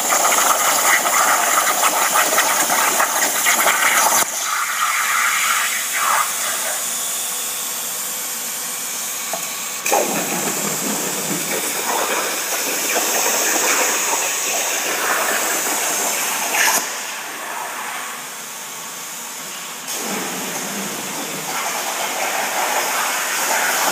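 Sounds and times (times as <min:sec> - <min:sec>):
plasma cutter hissing: 0:00.0 - 0:07.8, 0:09.3 - 0:18.2, 0:19.9 - 0:23.9.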